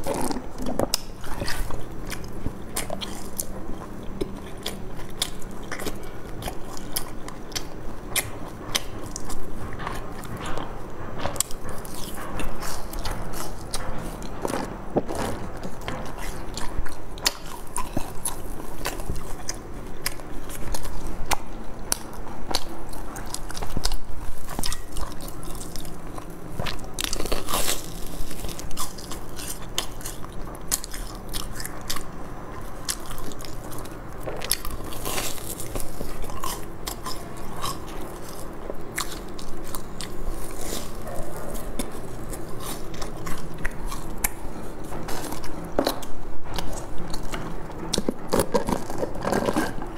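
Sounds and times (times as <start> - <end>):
chewing crunchy food: 0.0 - 49.9.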